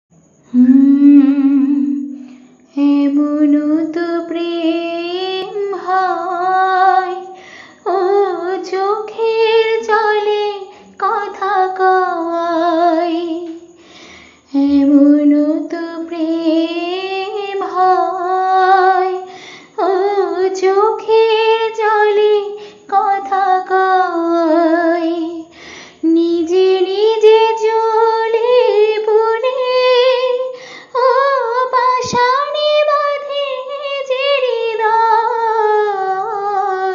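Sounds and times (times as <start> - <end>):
woman singing unaccompanied: 0.5 - 13.8, 14.4 - 36.9.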